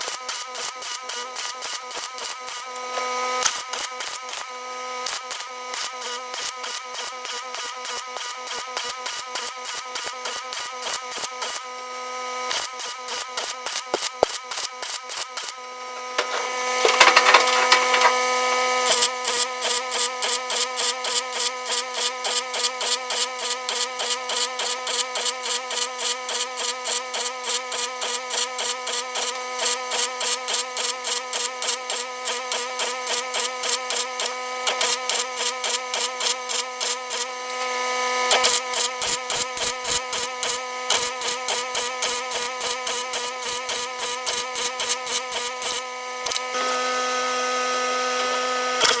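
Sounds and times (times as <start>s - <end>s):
welder hiss: 0.0s - 2.7s, 3.4s - 4.4s, 5.0s - 11.6s, 12.5s - 18.1s, 18.8s - 37.7s, 38.3s - 45.9s
welder humming and crackling: 0.0s - 49.0s.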